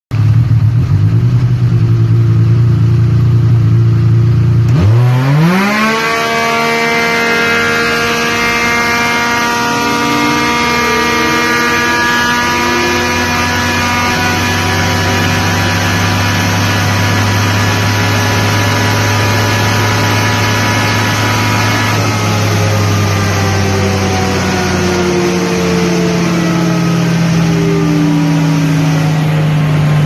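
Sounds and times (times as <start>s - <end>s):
engine revving on a dyno: 3.8s - 30.0s.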